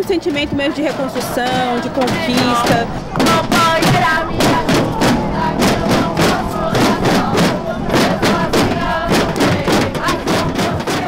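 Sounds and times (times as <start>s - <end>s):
drums beaten fast: 0.0s - 11.0s
women singing and chanting: 0.0s - 11.0s.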